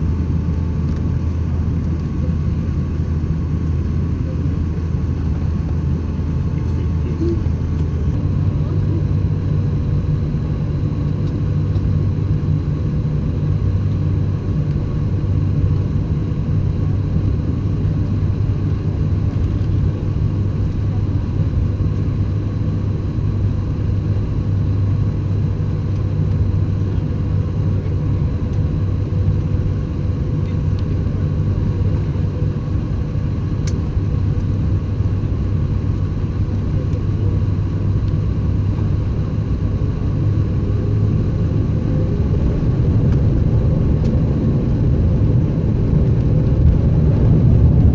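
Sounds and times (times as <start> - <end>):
aircraft cabin engine rumble: 0.0 - 47.9.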